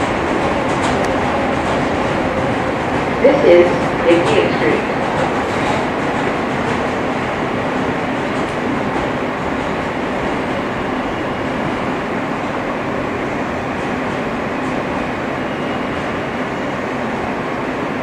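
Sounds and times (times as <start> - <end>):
subway car rumble and hum: 0.0 - 18.0.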